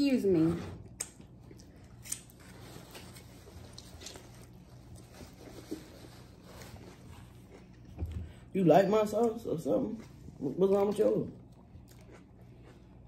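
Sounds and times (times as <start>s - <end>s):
low room hum: 0.0s - 13.0s
chewing and mouth sounds: 0.8s - 5.9s, 6.7s - 8.4s, 9.1s - 13.0s.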